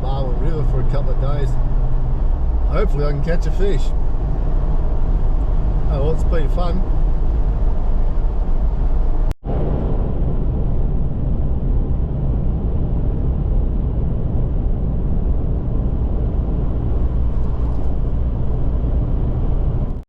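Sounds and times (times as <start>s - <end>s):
car driving road noise: 0.0s - 20.0s.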